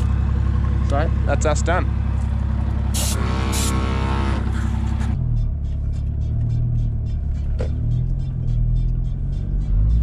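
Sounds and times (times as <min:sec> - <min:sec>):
car driving on highway: 0:00.0 - 0:10.0.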